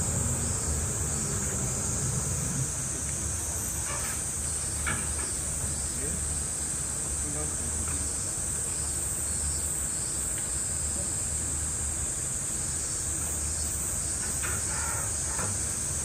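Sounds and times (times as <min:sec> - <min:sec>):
cicadas buzzing: 0:00.0 - 0:16.0.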